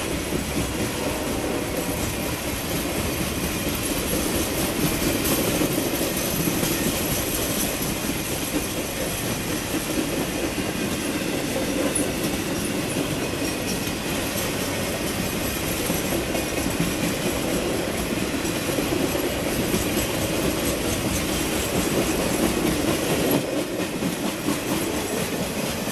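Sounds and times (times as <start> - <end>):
train wheels rumbling on rail: 0.0 - 25.9.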